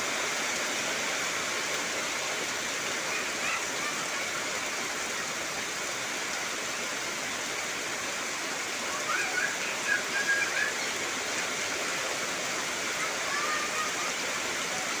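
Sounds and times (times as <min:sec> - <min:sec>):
heavy rain on trees: 0:00.0 - 0:15.0.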